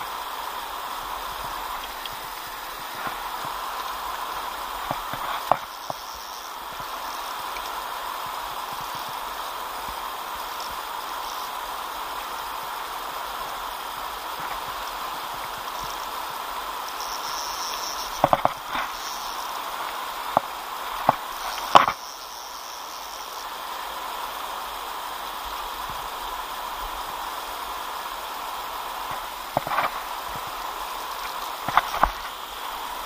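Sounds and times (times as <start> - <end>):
river flowing over stones: 0.0 - 33.0.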